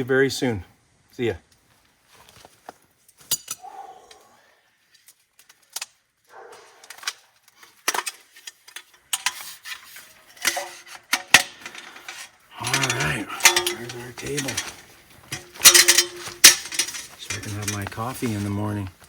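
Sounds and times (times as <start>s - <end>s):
camp gear clinking and knocking: 2.2s - 4.2s, 5.4s - 19.0s.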